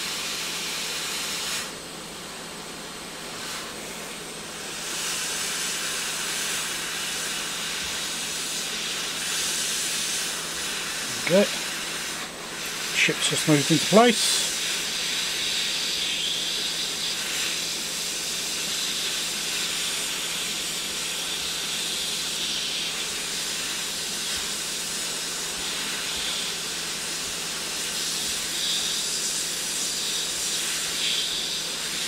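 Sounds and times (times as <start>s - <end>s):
hot air blower hissing: 0.0s - 32.0s.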